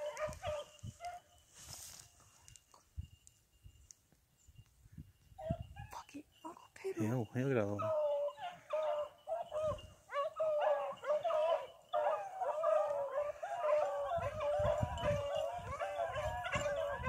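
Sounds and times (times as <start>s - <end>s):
hunting dogs baying and howling: 0.0s - 2.5s, 5.2s - 17.0s.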